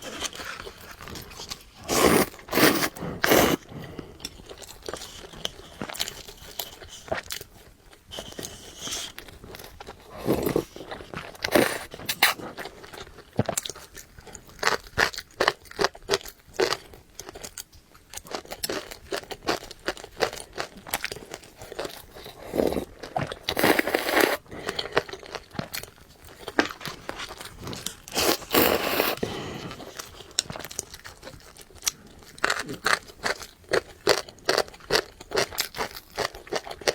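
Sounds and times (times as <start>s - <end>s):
person chewing and crunching: 0.0s - 36.9s.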